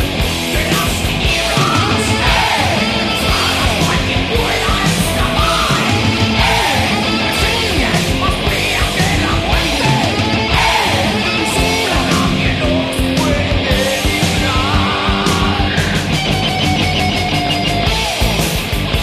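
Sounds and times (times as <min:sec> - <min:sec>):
driving drum beat: 0:00.0 - 0:19.0
electric guitar: 0:00.0 - 0:19.0.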